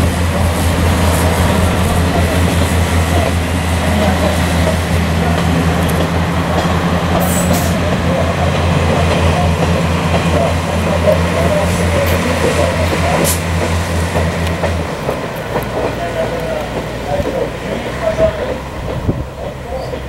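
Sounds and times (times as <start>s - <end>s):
diesel locomotive droning: 0.0s - 20.0s
train cars rumbling on rails: 0.0s - 20.0s.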